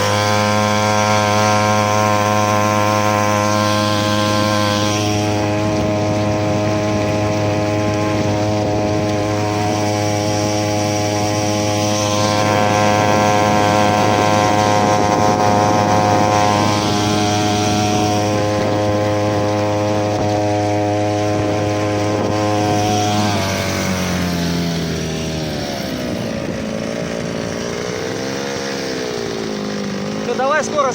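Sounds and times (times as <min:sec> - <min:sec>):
outboard motor running: 0:00.0 - 0:30.9.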